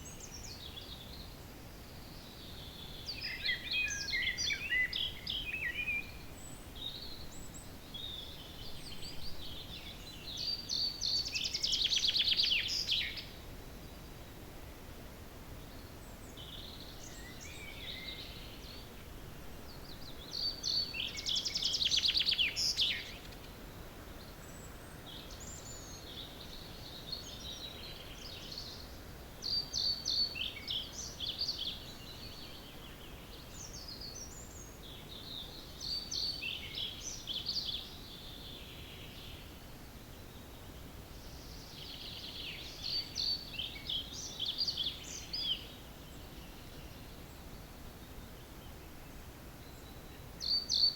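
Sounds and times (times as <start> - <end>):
faint background hiss: 0.0 - 50.9
songbirds singing: 0.0 - 50.9.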